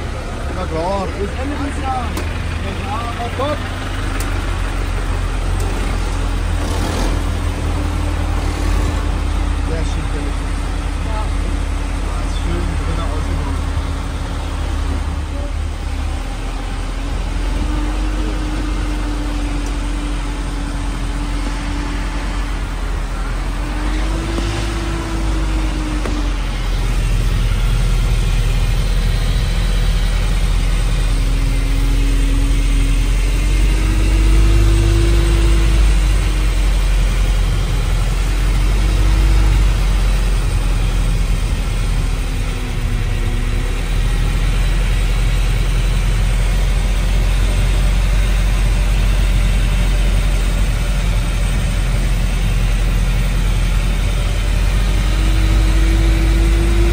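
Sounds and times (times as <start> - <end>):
vehicle engine drone: 0.0 - 56.9.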